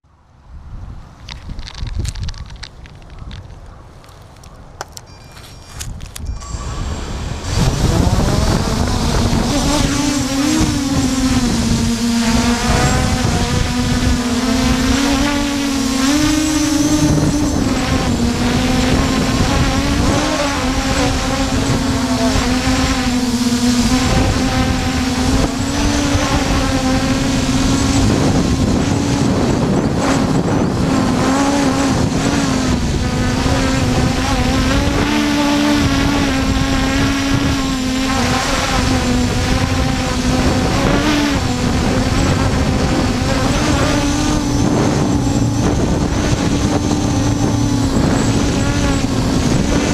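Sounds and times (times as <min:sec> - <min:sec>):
wind rumbling on microphone: 0:00.0 - 0:49.9
quadcopter propellers buzzing: 0:01.2 - 0:49.9.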